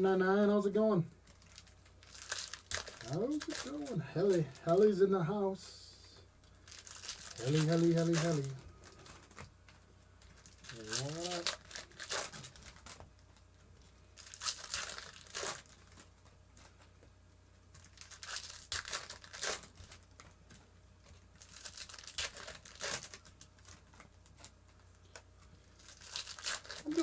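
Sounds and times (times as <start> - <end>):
wrappers torn and crinkled: 1.2 - 4.9, 6.4 - 13.2, 14.1 - 16.9, 17.7 - 20.4, 21.0 - 27.0.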